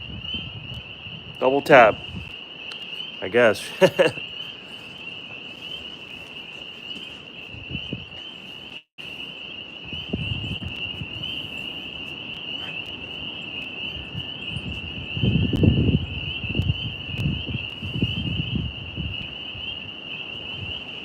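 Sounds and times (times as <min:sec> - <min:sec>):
crickets trilling: 0:00.0 - 0:21.0
wind buffeting microphone: 0:00.0 - 0:21.0.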